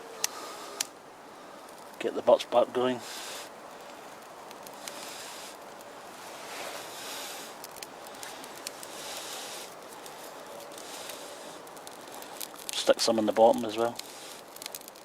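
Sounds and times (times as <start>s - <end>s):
bark burning with soft hiss: 0.0s - 15.0s
small crackles and clicks: 0.2s - 15.0s.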